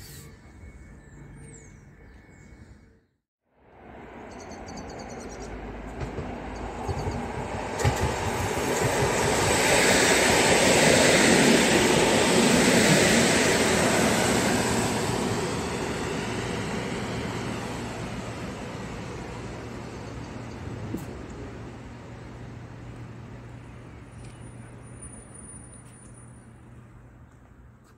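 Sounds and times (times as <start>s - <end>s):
train passing at speed: 3.5s - 27.8s.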